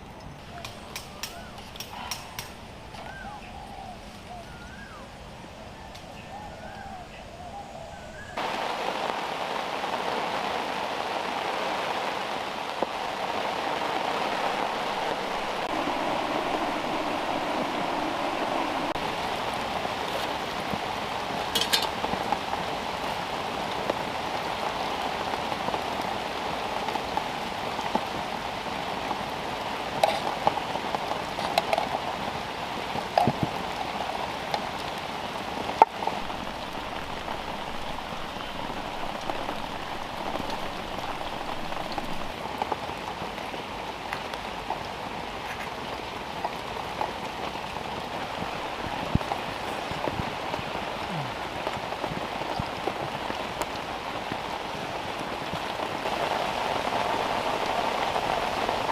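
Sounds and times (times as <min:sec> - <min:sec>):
steady rain pattering: 0:00.0 - 0:58.9.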